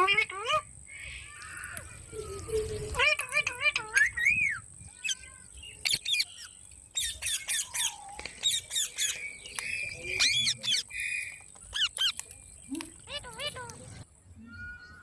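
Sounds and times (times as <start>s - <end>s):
parrot squawking and calling: 0.0s - 1.6s, 2.8s - 9.2s, 9.9s - 12.2s, 13.0s - 15.0s.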